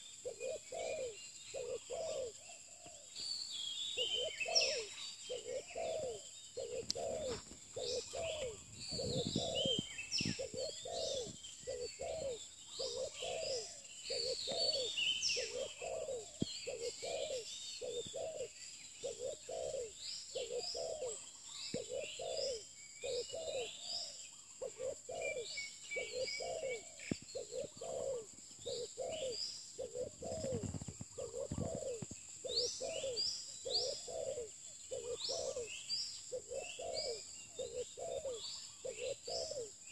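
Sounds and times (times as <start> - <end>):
dove cooing: 0.0 - 3.1, 4.0 - 39.9
small birds chirping: 0.0 - 39.9.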